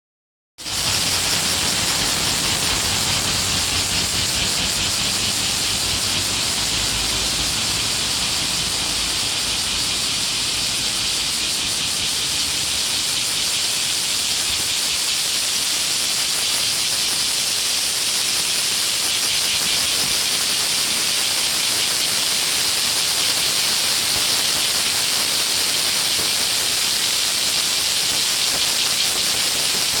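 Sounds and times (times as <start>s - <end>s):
cicadas singing: 0.6s - 30.0s.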